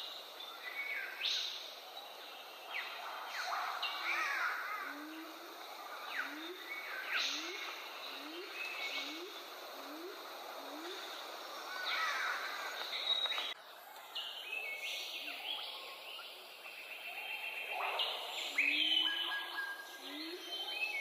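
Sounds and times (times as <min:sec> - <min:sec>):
birds calling: 0:00.0 - 0:13.6, 0:15.1 - 0:21.0.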